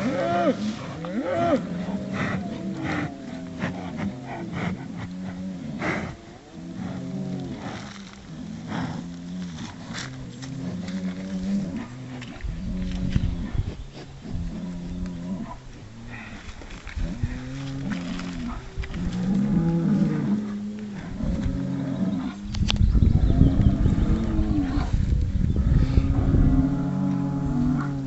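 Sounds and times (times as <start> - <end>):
bulls calling with moans: 0.0 - 28.0.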